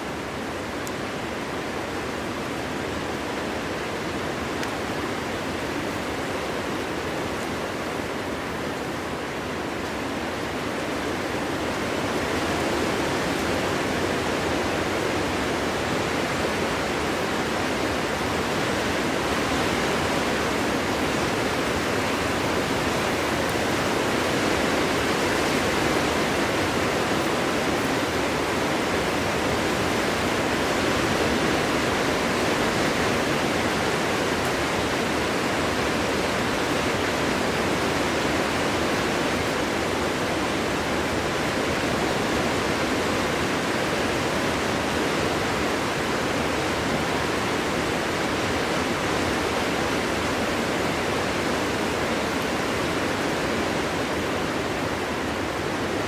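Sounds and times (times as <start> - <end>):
wind blowing through forest: 0.0 - 56.0.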